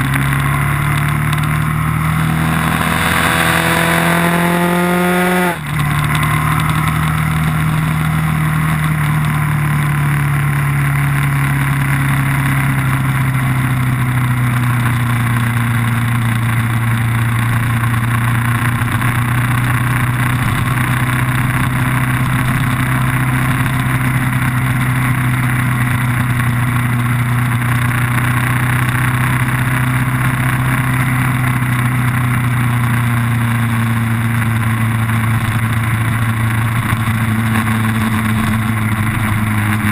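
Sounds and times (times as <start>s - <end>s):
vehicle engine running steadily: 0.0s - 39.9s.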